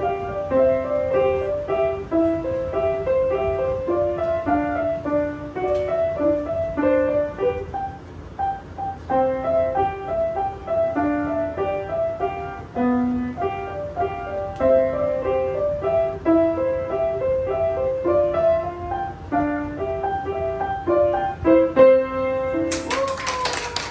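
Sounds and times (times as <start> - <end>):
solo piano playing fast notes: 0.0 - 23.9.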